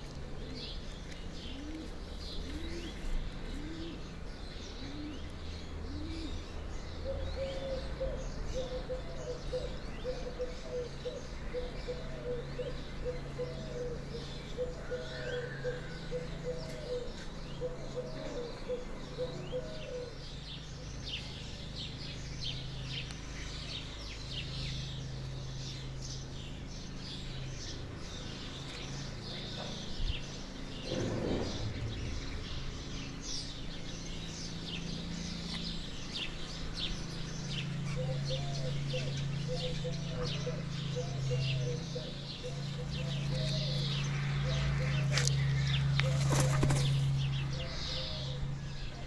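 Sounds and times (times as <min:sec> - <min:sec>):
small birds chirping: 0:00.0 - 0:49.0
steady low hum: 0:00.0 - 0:49.0.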